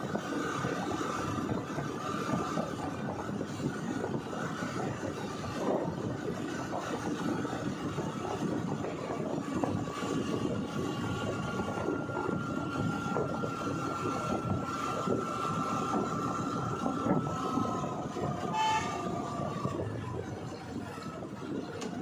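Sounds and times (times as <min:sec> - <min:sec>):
high-pitched whine: 0:00.0 - 0:22.0
vehicle road and engine noise: 0:00.0 - 0:22.0.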